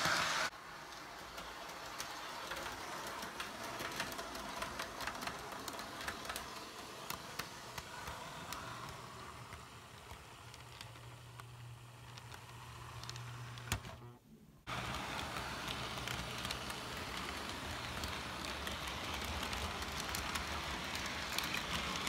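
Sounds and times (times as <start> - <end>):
model train wheels clicking: 0.0 - 13.8, 14.7 - 22.0.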